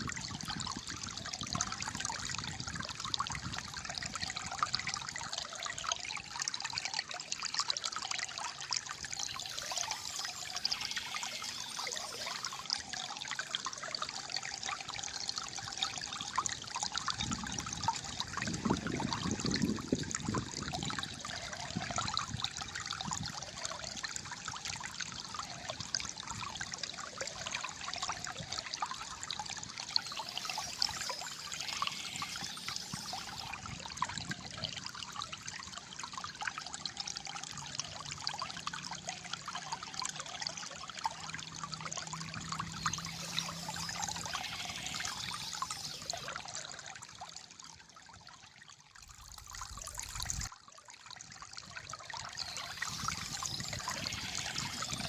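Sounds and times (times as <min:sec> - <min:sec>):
water trickling and gurgling: 0:00.0 - 0:55.0.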